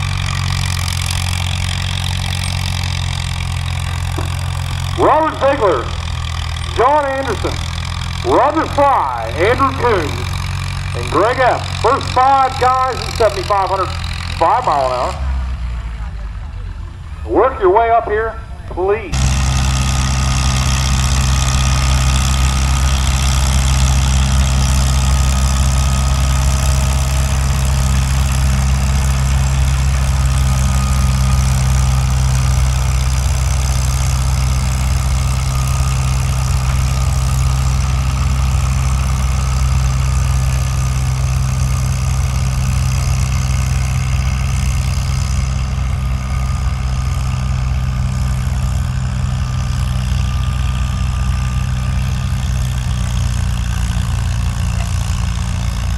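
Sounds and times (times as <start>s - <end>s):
tractor engine under load: 0.0s - 55.9s.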